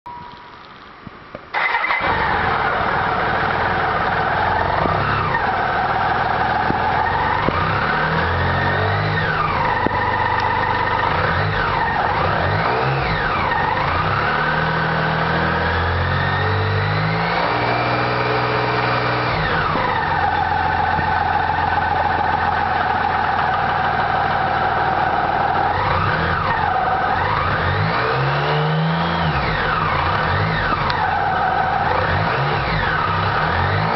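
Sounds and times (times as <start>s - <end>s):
motorcycle engine starting and revving: 1.5s - 33.9s.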